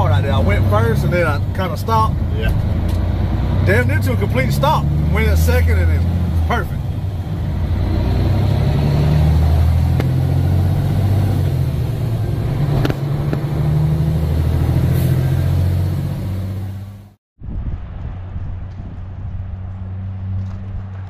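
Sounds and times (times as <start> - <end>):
diesel truck engine running: 0.0 - 17.2.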